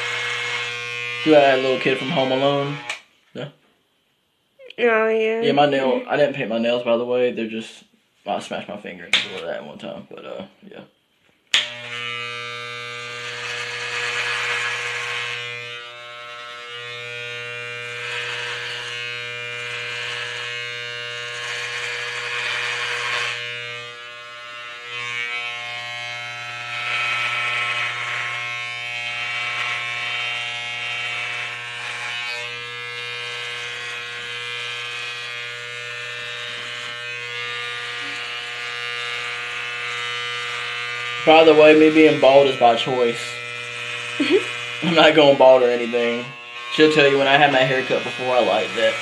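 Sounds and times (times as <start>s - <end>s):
clipper blades cutting hair: 0.0s - 3.0s, 11.5s - 49.0s
electric hair clippers buzzing: 0.0s - 3.1s, 11.5s - 49.0s.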